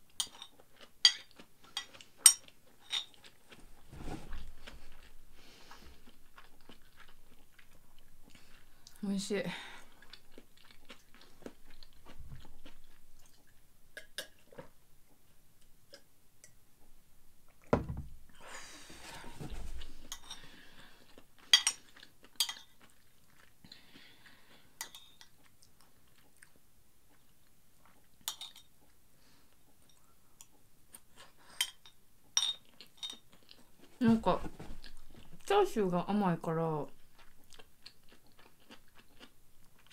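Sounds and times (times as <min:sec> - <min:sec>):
soft chewing: 0:00.0 - 0:17.7, 0:19.0 - 0:35.6, 0:36.8 - 0:39.9.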